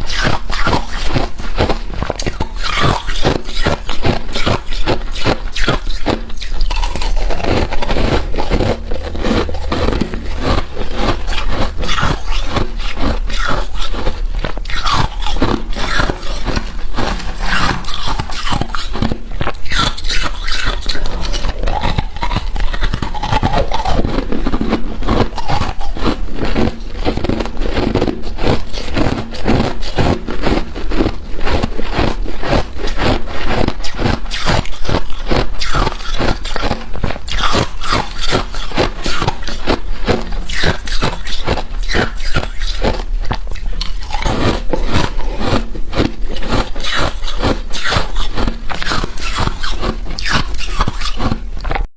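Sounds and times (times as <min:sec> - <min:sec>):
freezer frost crunching: 0:00.0 - 0:51.9.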